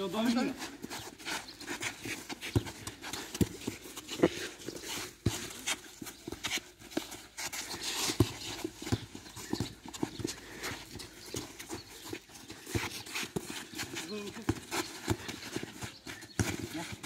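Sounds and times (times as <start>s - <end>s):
running footsteps on turf: 0.0s - 17.0s.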